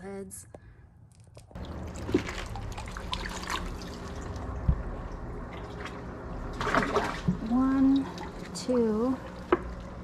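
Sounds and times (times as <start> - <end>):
water trickling and dripping: 1.6 - 10.0.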